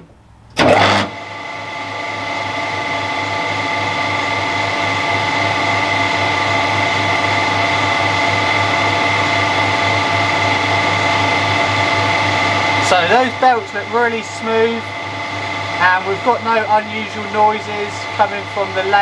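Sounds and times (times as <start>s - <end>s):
metal lathe humming and whining: 0.6s - 19.0s.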